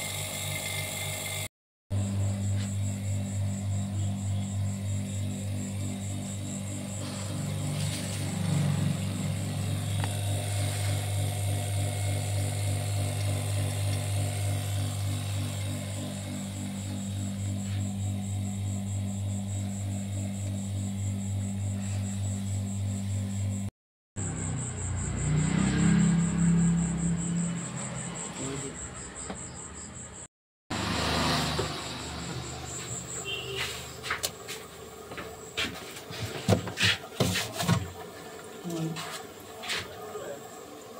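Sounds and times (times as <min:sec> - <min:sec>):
vacuum pump humming and pulsing: 0:00.0 - 0:25.4, 0:30.7 - 0:40.9.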